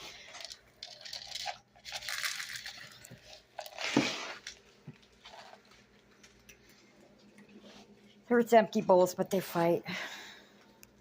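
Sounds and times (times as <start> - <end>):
crinkling rustling handling noise: 0.0 - 8.8.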